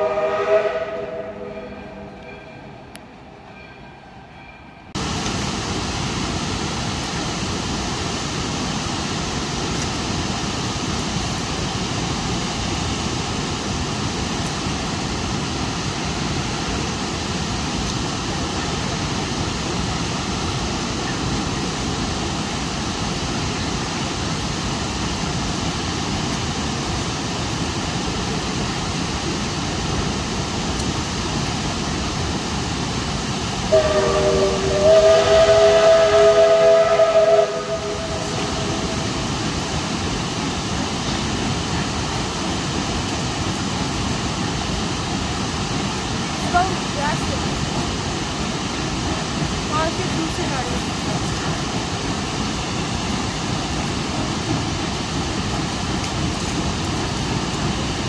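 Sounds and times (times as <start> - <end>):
waterfall roaring: 5.0 - 58.0.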